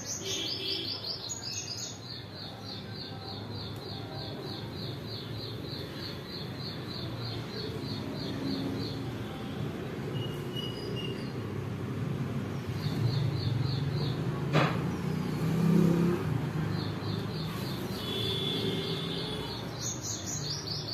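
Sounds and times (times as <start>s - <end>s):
road traffic rumble: 0.0s - 20.9s.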